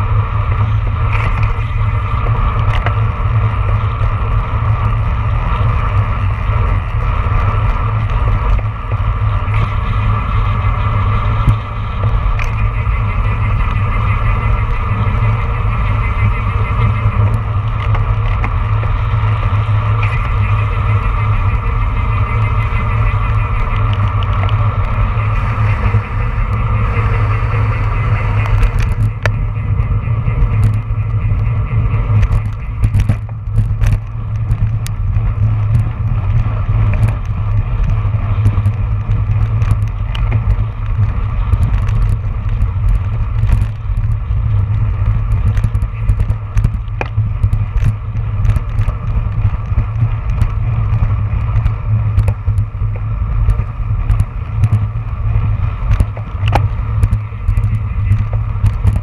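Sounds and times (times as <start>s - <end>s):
bike clicks and rattles: 0.0s - 59.0s
wind rushing over microphone: 0.0s - 59.0s.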